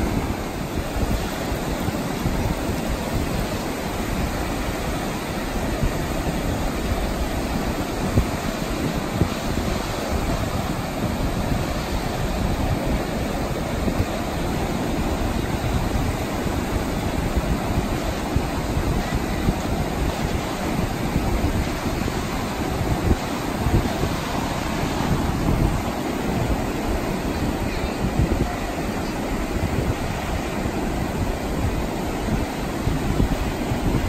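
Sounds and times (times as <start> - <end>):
waves breaking on beach: 0.0 - 34.0
wind buffeting microphone: 0.0 - 34.0.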